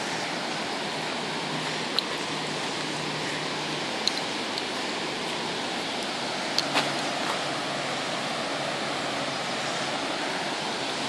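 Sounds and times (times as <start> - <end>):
water rushing over a weir: 0.0 - 11.0.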